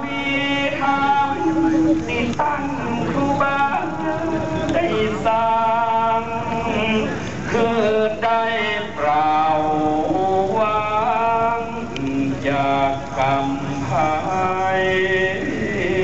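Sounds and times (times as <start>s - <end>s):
man singing a chant: 0.0s - 16.0s.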